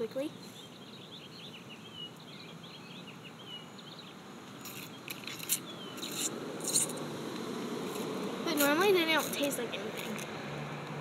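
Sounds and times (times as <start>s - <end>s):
birds chirping: 0.0s - 10.2s.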